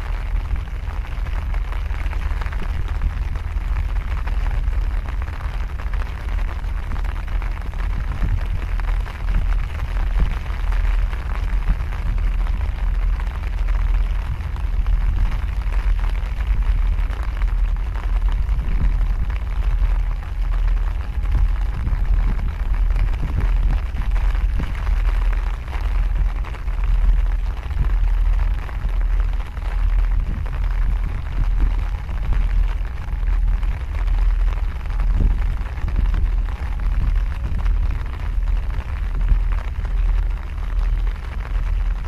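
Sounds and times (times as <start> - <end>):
steady hiss: 0.0 - 42.0
wind buffeting microphone: 0.0 - 42.0.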